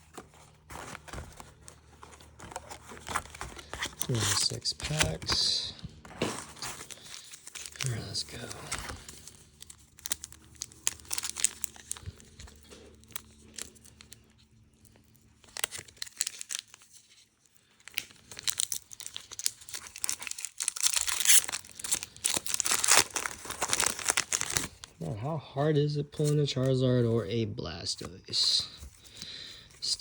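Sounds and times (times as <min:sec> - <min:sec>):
foil wrappers crinkling and tearing: 0:00.0 - 0:25.0.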